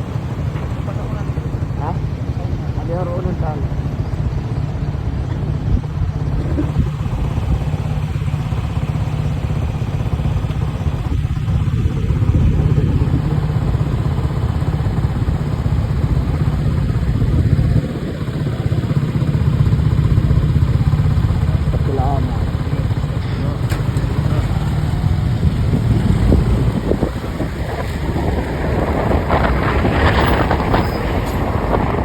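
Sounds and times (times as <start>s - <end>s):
road rumble: 0.0s - 32.0s
vehicle engine running: 0.0s - 32.0s.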